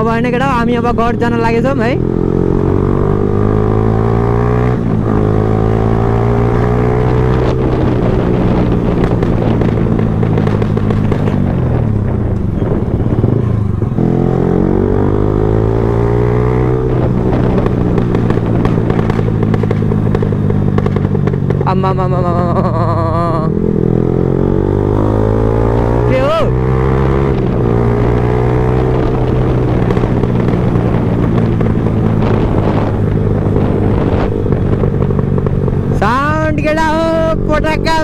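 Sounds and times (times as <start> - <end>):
motorcycle engine and exhaust: 0.0 - 38.0.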